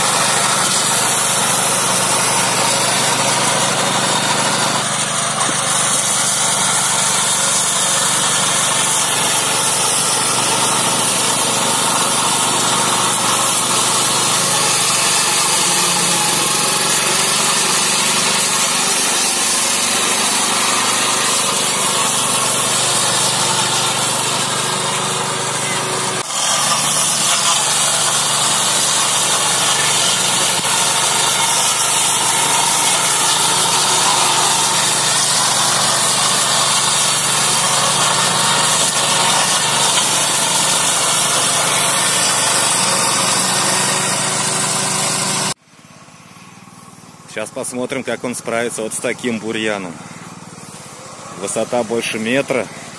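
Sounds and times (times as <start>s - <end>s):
rotary mower cutting grass: 0.0s - 52.9s
small petrol engine running: 0.0s - 52.9s.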